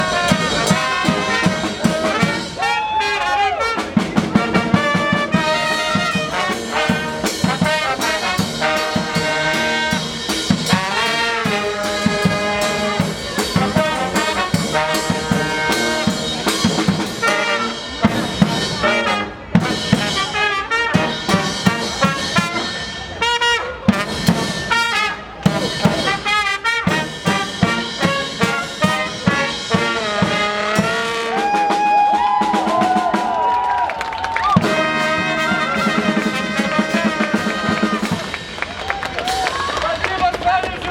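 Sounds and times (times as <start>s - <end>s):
drum kit beat: 0.0s - 2.8s, 3.6s - 33.6s, 34.4s - 39.7s
brass band music: 0.0s - 40.9s.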